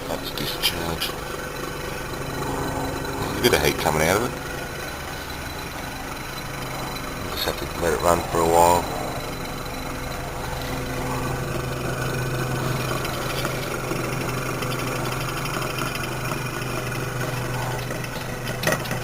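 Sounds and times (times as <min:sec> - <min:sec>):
fridge compressor humming: 0:00.0 - 0:19.0.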